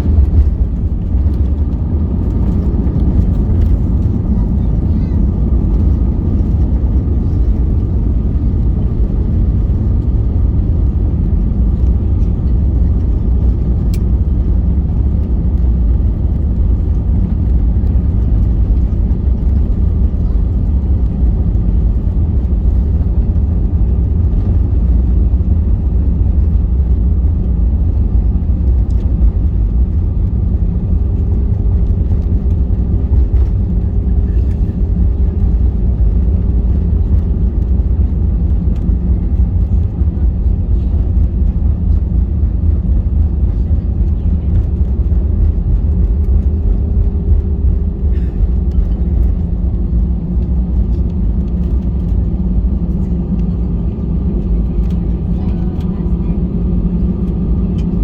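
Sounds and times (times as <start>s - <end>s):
airplane engines and airflow rumble: 0.0s - 58.0s.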